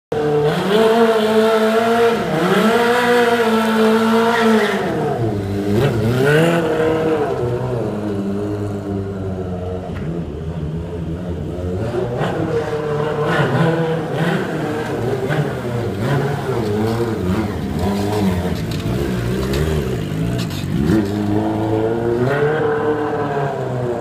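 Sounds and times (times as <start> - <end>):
motorcycle engine revving: 0.1 - 24.0.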